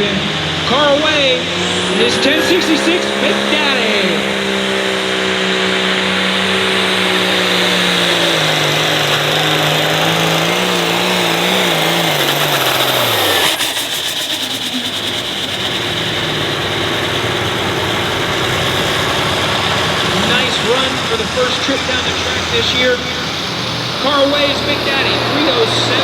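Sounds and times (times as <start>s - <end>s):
steady quieter engine noise: 0.0s - 26.0s
tractor diesel engine under load: 0.0s - 26.0s.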